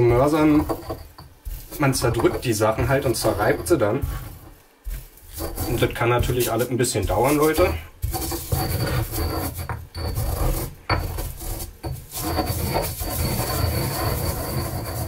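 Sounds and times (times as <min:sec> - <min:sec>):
pestle grinding in stone mortar: 0:00.0 - 0:15.0.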